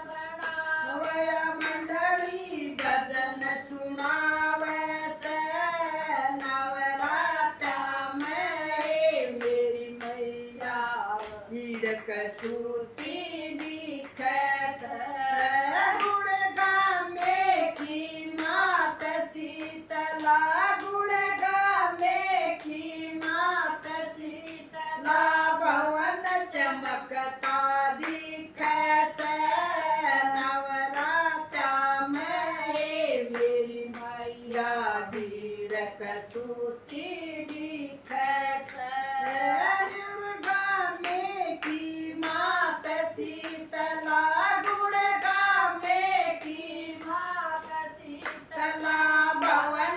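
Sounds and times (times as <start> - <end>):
women singing devotional song: 0.0 - 49.9
hand claps: 0.3 - 49.9.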